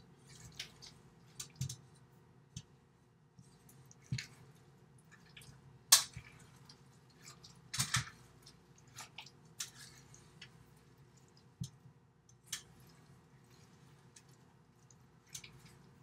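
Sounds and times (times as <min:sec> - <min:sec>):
wet mixture squishing: 0:00.0 - 0:16.0.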